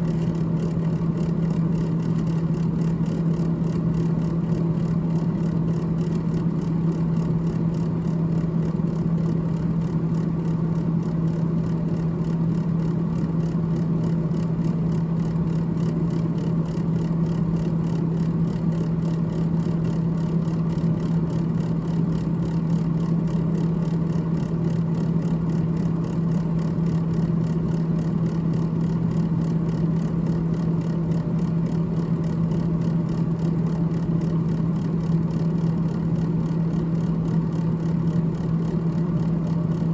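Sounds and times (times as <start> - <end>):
freezer fan hum and whir: 0.0 - 39.9.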